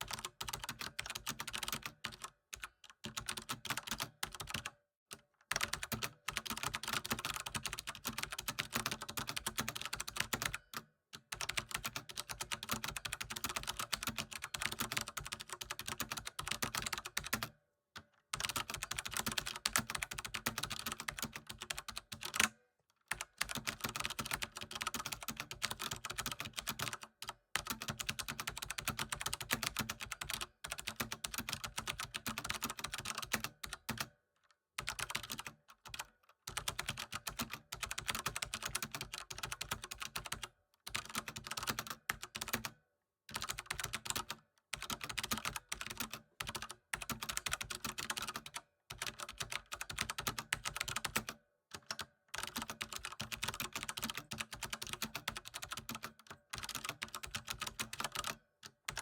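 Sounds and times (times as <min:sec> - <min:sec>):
fast typing on keyboard: 0:00.0 - 0:04.8, 0:05.5 - 0:17.6, 0:18.3 - 0:22.5, 0:23.1 - 0:34.2, 0:34.8 - 0:59.0.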